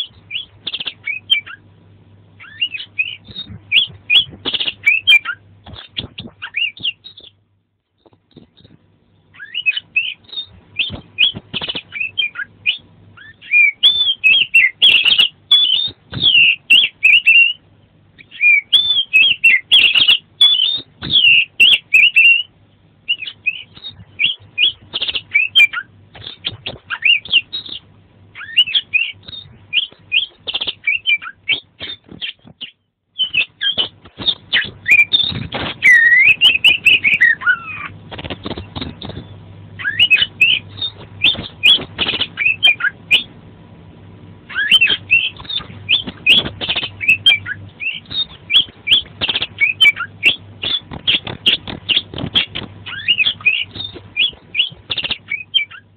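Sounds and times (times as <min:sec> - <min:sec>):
songbird singing whistles and chirps: 0:00.0 - 0:01.7, 0:02.4 - 0:07.4, 0:08.0 - 0:43.3, 0:44.5 - 0:55.9.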